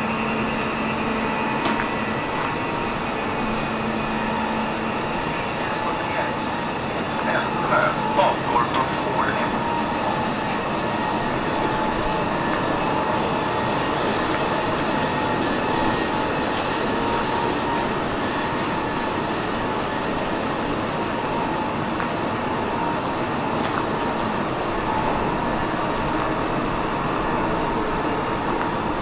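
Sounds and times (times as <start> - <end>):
faint steady whine: 0.0 - 29.0
moving vehicle running noise: 0.0 - 29.0.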